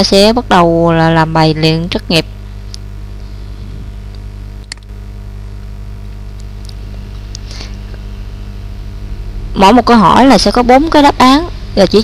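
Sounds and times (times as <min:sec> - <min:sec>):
background hiss: 0:00.0 - 0:12.0
low electrical hum: 0:00.0 - 0:12.0.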